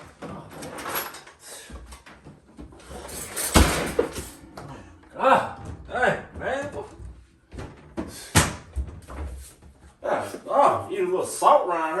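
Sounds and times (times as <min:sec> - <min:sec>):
things being shifted: 0:00.0 - 0:10.0.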